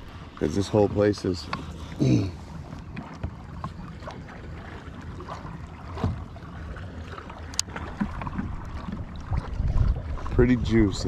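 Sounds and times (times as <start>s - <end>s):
water lapping against hull: 0.0s - 11.0s
low wind rumble: 2.0s - 11.0s.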